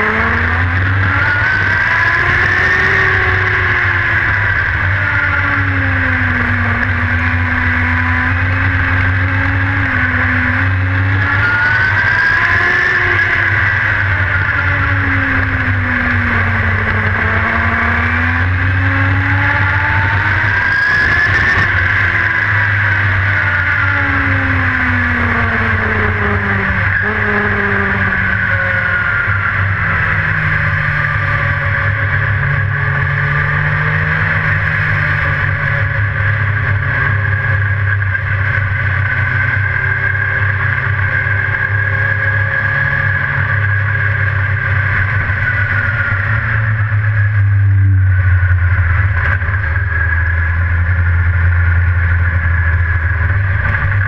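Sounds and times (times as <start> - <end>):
race car engine: 0.0 - 54.0.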